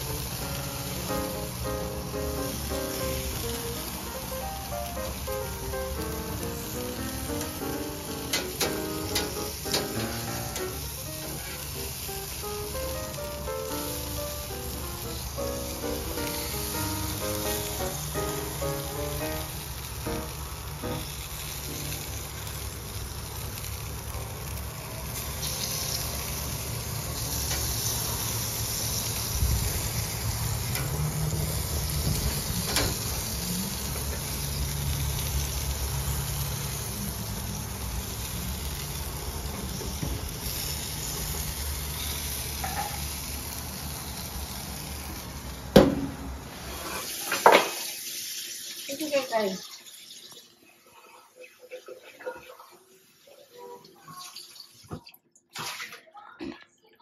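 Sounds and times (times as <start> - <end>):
food sizzling on a grill: 0.0 - 55.0.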